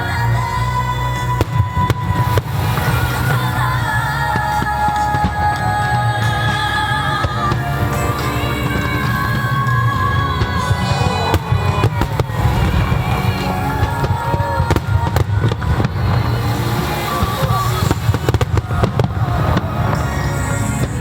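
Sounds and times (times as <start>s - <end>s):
music with heavy bass: 0.0s - 21.0s
fireworks shells bursting: 0.6s - 21.0s.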